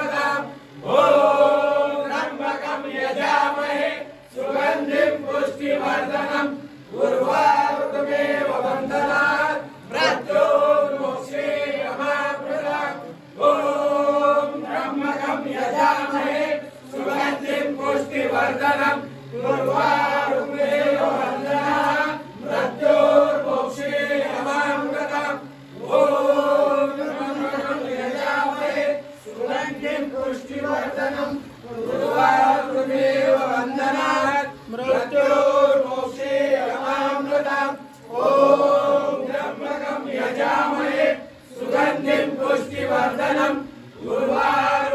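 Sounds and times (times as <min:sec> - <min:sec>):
men chanting: 0:00.0 - 0:44.9.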